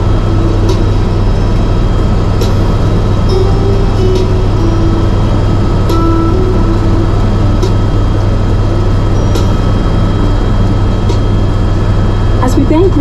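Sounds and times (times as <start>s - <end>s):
helicopter cabin drone: 0.0s - 13.0s.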